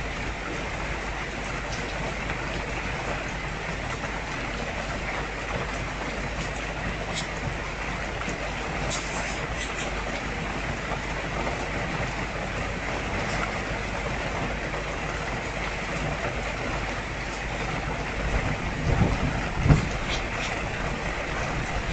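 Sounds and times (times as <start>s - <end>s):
rain hissing: 0.0s - 21.9s
water trickling from fountain: 0.0s - 21.9s.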